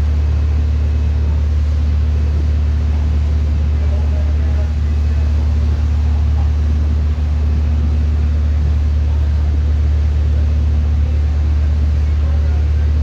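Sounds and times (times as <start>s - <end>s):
subway train low hum: 0.0s - 13.0s.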